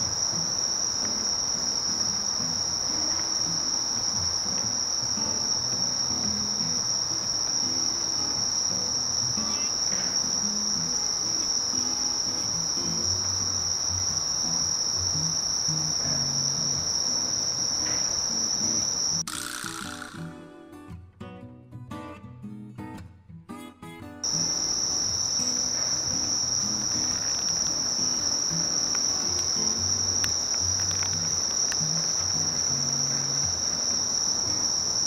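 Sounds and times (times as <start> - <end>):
insect high-pitched trill: 0.0 - 20.3, 24.2 - 35.0
guitar tune: 0.0 - 35.0.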